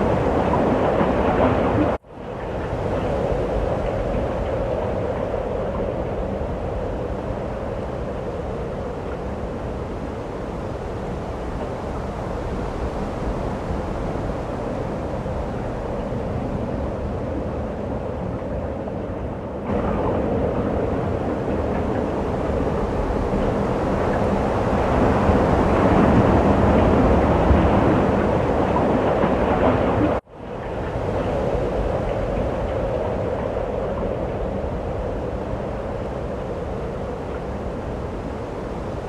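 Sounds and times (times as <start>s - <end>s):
blizzard wind buffeting microphone: 0.0s - 39.0s.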